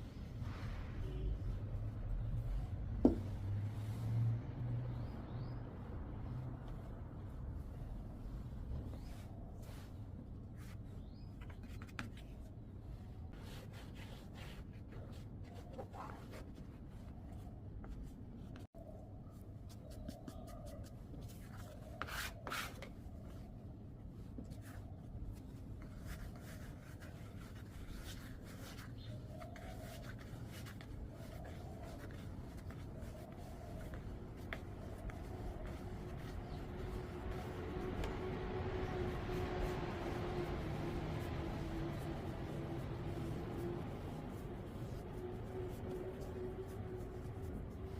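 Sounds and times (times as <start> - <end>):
dough rubbing and scraping: 0.0 - 18.7, 19.3 - 23.6, 24.2 - 47.9.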